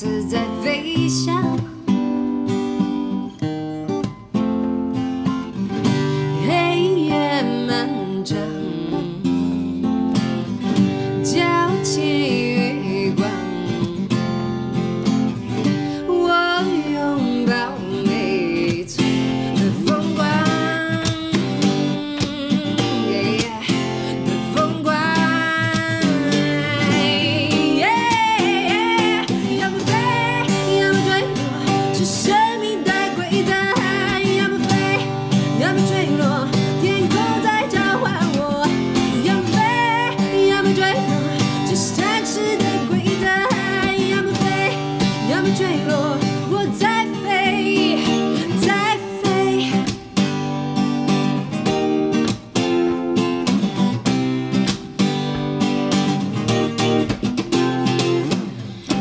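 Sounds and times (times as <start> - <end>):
acoustic guitar: 0.0 - 59.0
woman singing pop song: 0.0 - 59.0.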